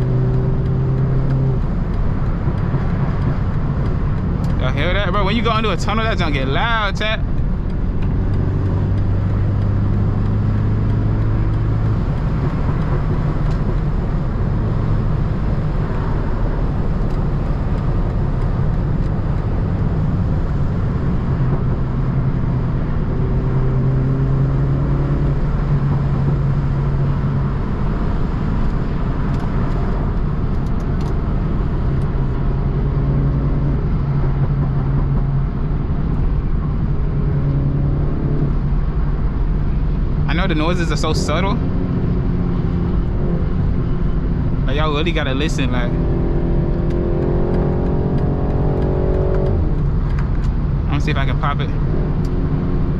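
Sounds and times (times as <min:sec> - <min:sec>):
car engine droning: 0:00.0 - 0:52.9
road and tyre noise: 0:00.0 - 0:52.9.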